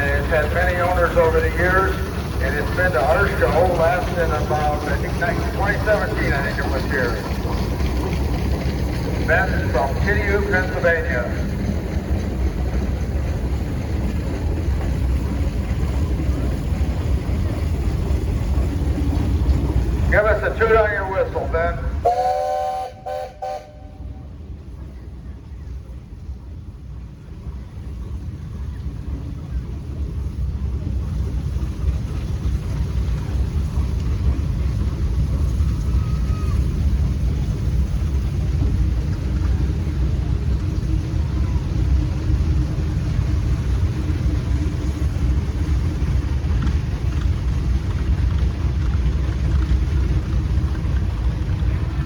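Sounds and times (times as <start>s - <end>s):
engines rumbling past: 0.0s - 22.0s, 23.7s - 52.0s.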